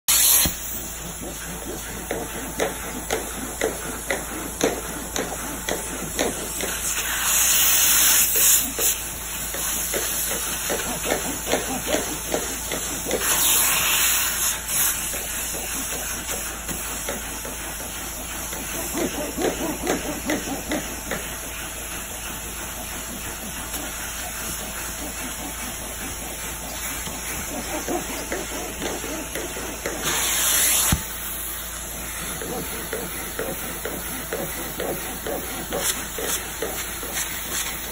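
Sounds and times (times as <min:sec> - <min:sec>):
steam cleaner hissing: 0:00.1 - 0:37.9.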